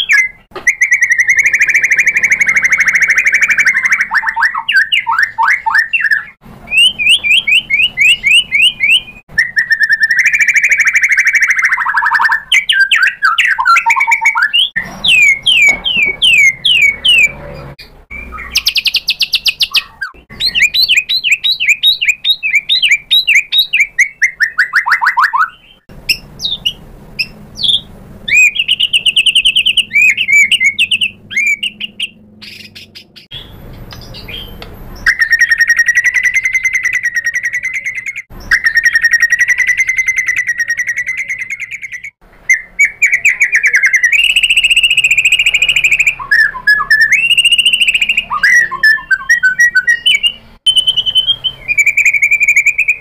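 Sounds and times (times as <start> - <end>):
shama singing trills: 0.0 - 53.0.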